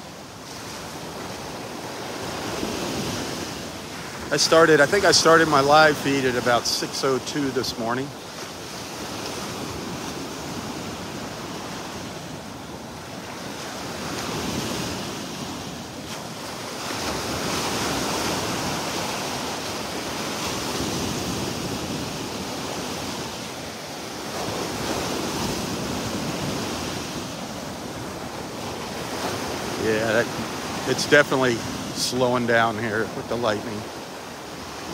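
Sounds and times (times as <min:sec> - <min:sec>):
rushing wind: 0:00.0 - 0:34.9
surf: 0:00.0 - 0:34.9.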